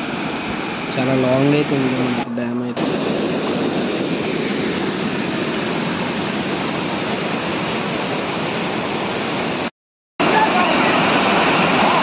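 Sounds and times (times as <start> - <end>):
water rushing over a weir: 0.0 - 2.2, 2.8 - 12.0.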